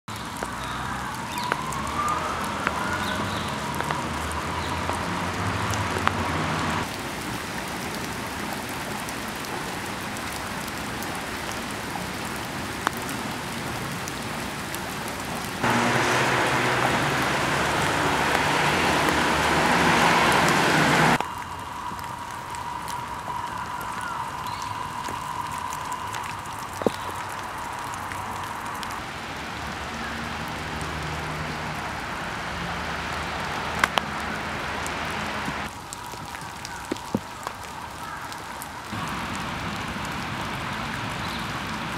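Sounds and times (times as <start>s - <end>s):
wet snow and sleet pattering: 0.1s - 41.9s.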